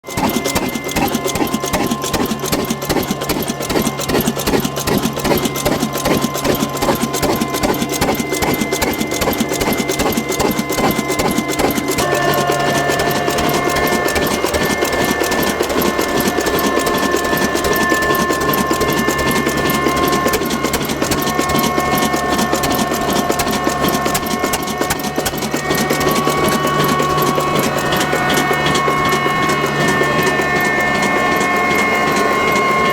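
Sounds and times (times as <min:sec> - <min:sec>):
mechanical whine: 0:00.0 - 0:32.9
small engine clattering: 0:00.0 - 0:32.9.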